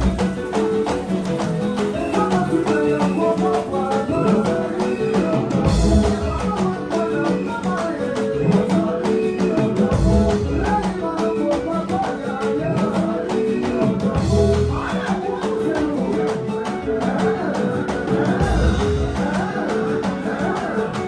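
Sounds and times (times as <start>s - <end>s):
person singing: 0.0s - 21.0s
song with guitar and drums: 0.0s - 21.0s.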